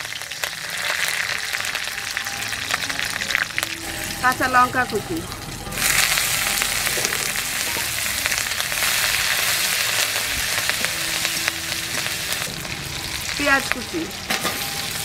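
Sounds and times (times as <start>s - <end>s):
chillies sizzling in hot oil: 0.0s - 15.0s.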